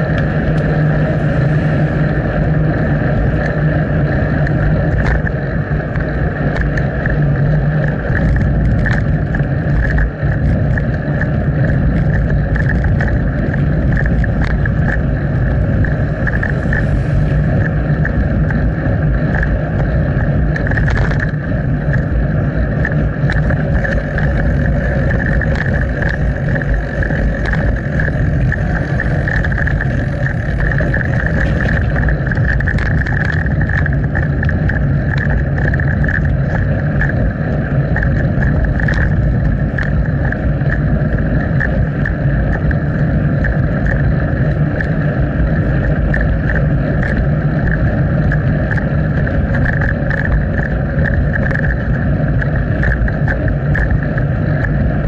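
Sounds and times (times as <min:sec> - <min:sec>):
bicycle rolling noise: 0:00.0 - 0:55.0
small rattles and clicks: 0:00.0 - 0:55.0
wind noise: 0:00.0 - 0:55.0.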